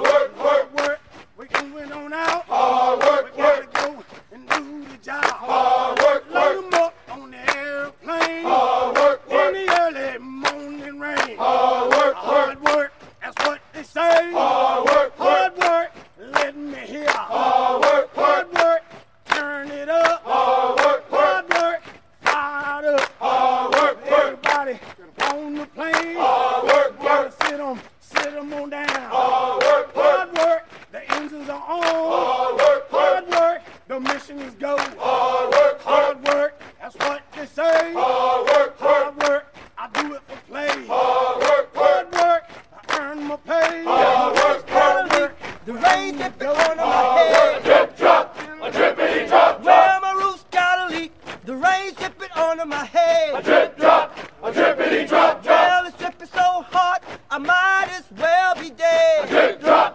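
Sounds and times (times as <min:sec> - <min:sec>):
crowd chanting: 0:00.0 - 0:01.0, 0:01.6 - 0:57.0, 0:58.0 - 0:59.9.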